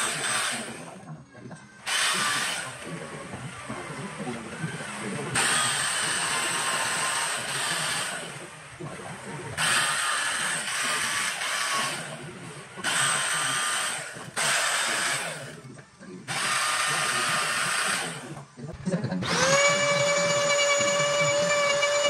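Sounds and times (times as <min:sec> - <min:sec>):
rotary tool grinding wood: 0:00.0 - 0:01.1, 0:01.8 - 0:18.5, 0:19.2 - 0:22.0.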